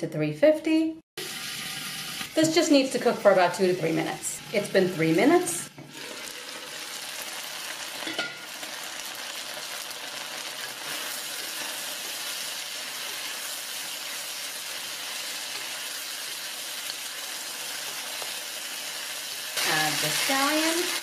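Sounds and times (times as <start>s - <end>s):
stir-fry sizzling in a wok: 1.2s - 21.0s.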